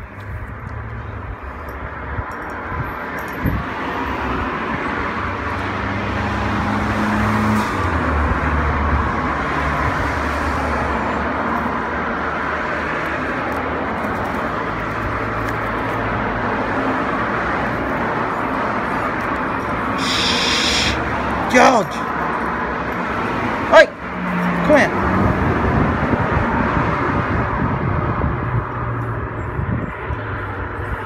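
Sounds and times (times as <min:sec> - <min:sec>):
cars passing on road: 0:00.0 - 0:31.0.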